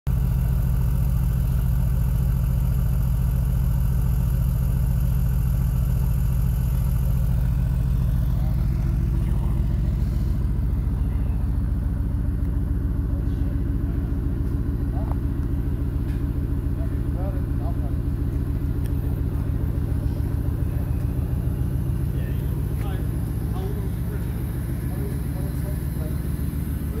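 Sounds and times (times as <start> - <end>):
car engine idling: 0.1 - 27.0.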